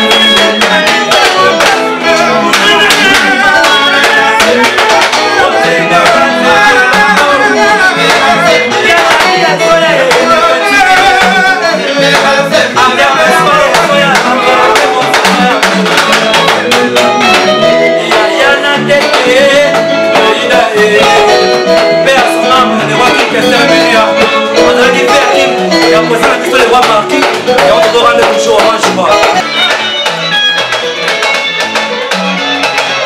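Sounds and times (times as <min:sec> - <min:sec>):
men singing: 0:00.0 - 0:29.6
guitars: 0:00.0 - 0:33.0
percussion beat: 0:00.0 - 0:33.0.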